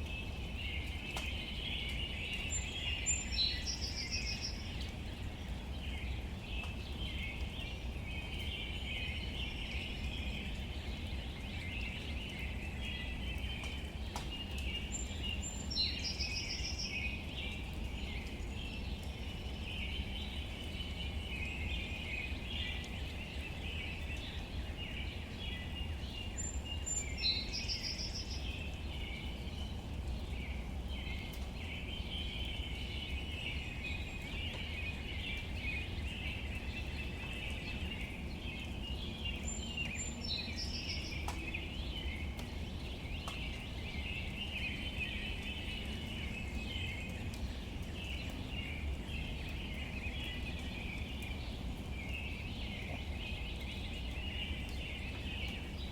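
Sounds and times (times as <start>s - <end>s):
light rain on leaves: 0.0s - 55.9s.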